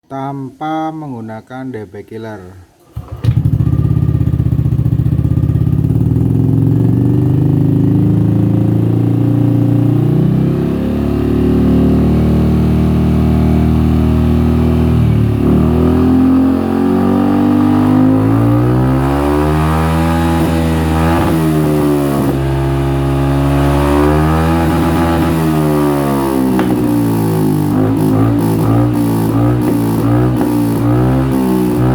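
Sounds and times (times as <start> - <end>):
scooter engine revving: 2.9 - 31.9.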